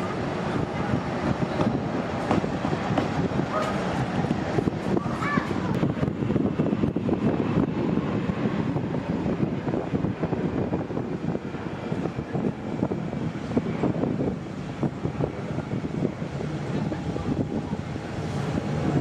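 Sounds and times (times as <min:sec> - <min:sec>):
jet engines at takeoff thrust: 0:00.0 - 0:19.0
wind noise on microphone: 0:00.0 - 0:19.0.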